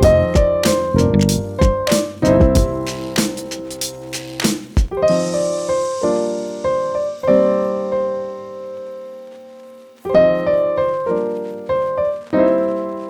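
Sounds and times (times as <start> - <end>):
slow piano chords: 0.0 - 4.2, 4.9 - 13.0.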